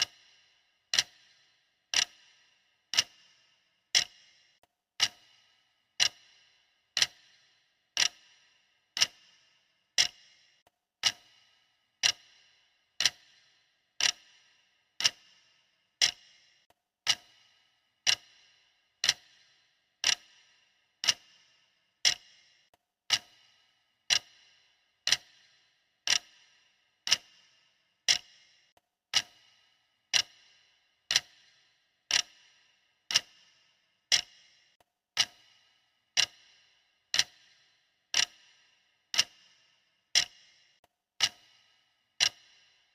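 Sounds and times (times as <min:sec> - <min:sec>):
stopwatch ticking: 0:00.0 - 0:42.9.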